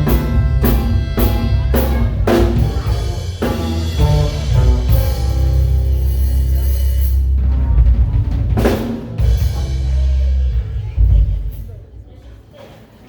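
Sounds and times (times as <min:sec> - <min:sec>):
live band playing: 0:00.0 - 0:12.1.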